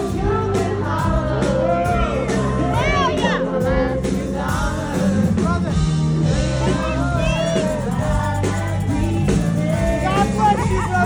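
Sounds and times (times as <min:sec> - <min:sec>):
bass: 0:00.0 - 0:11.0
drums: 0:00.0 - 0:11.0
vocal group singing: 0:00.0 - 0:11.0.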